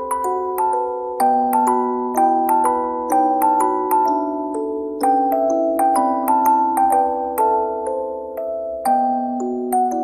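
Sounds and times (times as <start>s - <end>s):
music box melody: 0.0s - 10.0s.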